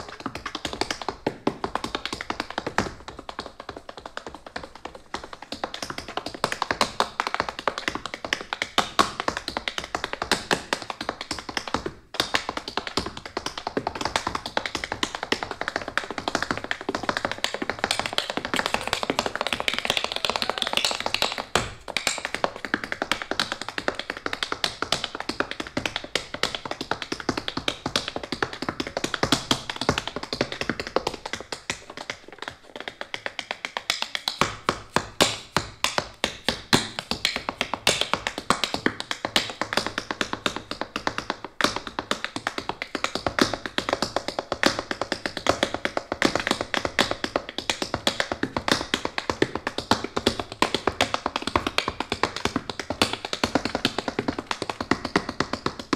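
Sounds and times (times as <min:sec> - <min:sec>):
tap shoes on wooden floor: 0:00.0 - 0:55.9.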